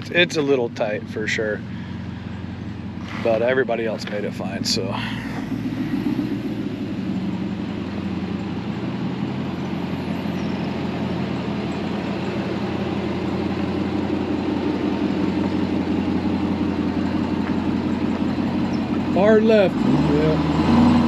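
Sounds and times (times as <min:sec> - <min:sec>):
vehicle engines at low revs: 0:00.0 - 0:21.0.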